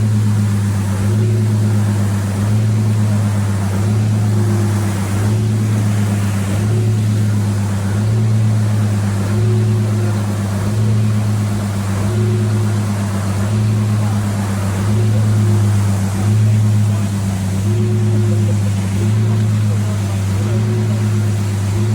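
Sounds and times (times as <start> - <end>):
heavy machine humming: 0.0 - 21.9.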